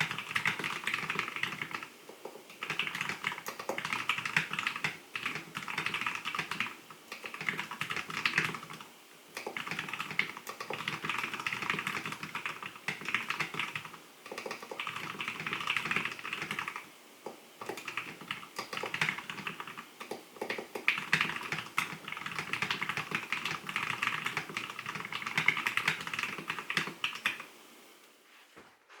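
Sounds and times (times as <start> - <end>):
mechanical keyboard typing: 0.0 - 1.9, 2.5 - 8.8, 9.4 - 16.8, 17.6 - 27.5.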